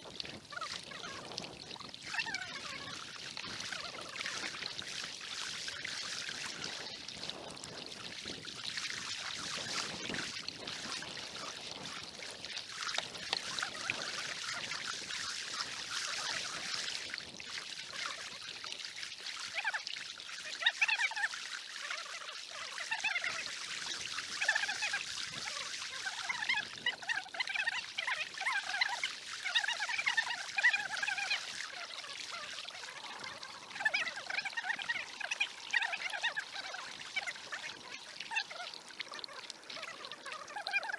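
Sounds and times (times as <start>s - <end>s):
water splashing around a kayak: 0.0s - 40.9s.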